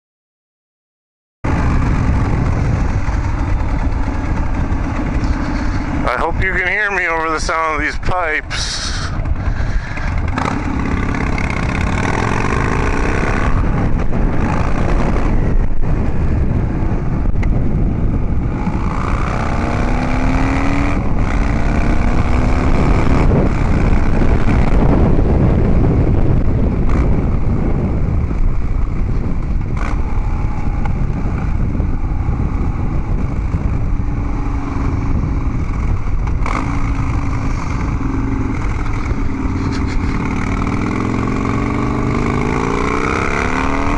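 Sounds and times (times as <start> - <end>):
motorcycle engine accelerating: 1.4 - 43.9.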